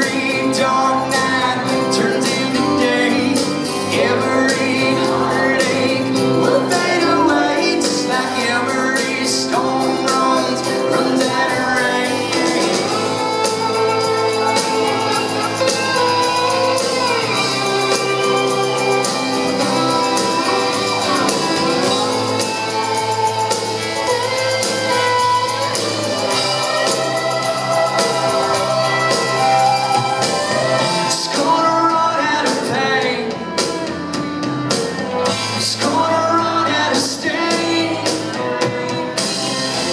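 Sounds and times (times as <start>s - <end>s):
country band playing: 0.0s - 39.9s
person singing: 0.0s - 39.9s.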